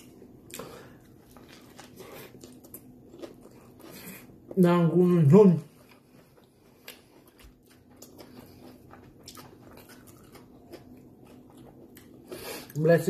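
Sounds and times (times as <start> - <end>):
person chewing sandwich: 0.0 - 13.0.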